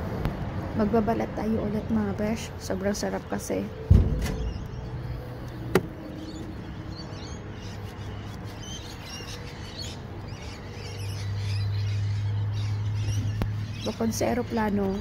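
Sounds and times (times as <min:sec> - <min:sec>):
birds chirping faintly: 0:00.8 - 0:15.0.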